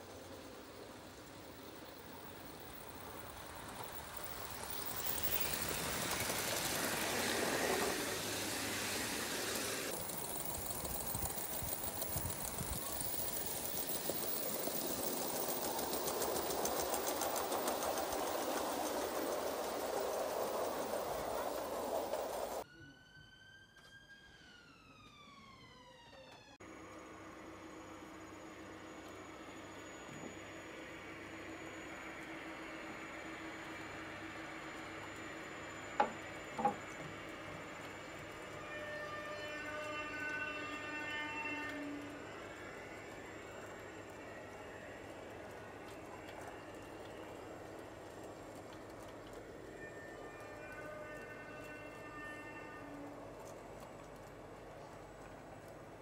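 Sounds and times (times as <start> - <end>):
steam locomotive running past: 0.0 - 56.0.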